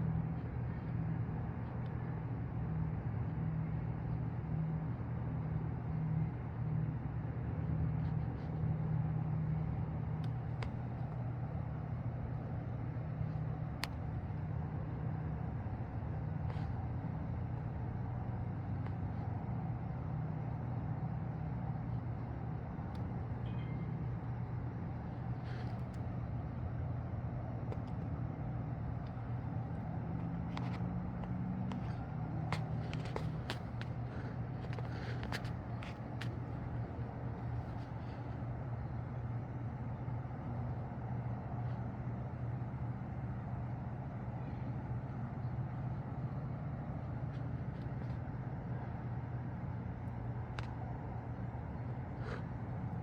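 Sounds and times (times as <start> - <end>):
low mechanical hum: 0.0 - 53.0
low outdoor rumble: 0.0 - 53.0.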